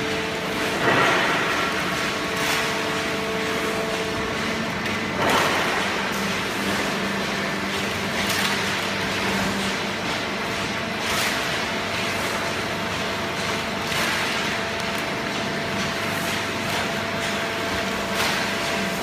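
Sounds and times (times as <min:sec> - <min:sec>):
baler machine hum with whine: 0:00.0 - 0:19.0.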